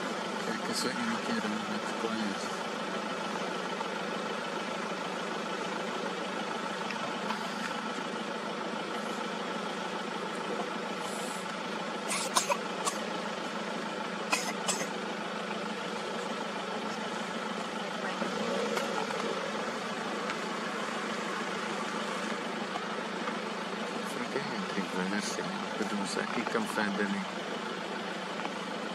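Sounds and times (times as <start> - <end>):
vehicle engine idling: 0.0 - 28.9.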